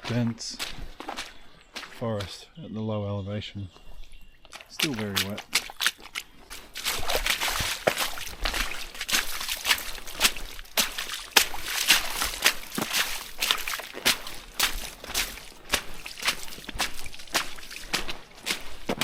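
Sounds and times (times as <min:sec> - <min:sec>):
boots tramping on wet ground: 0:00.0 - 0:02.5, 0:03.8 - 0:19.0.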